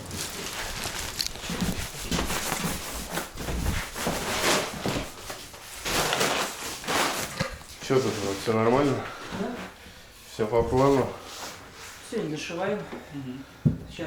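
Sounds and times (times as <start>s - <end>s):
footsteps: 0.0s - 12.0s
rustling and scuffing: 0.0s - 12.6s.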